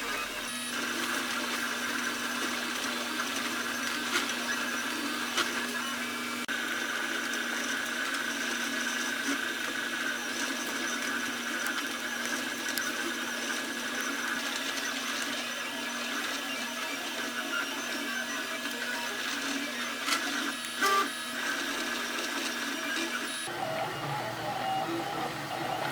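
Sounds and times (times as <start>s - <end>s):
printer motors and fans whirring: 0.0s - 25.9s.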